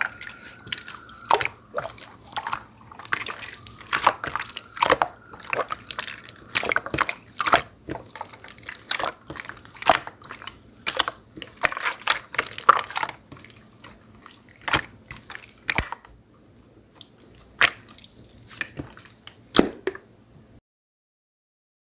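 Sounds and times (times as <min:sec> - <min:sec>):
slime squelching by hand: 0:00.0 - 0:19.8.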